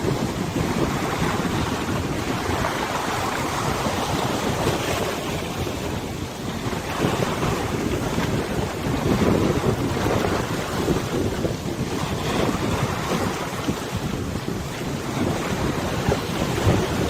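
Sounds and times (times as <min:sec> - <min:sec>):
river water splashing and lapping: 0:00.0 - 0:17.0
wind buffeting microphone: 0:00.0 - 0:17.0.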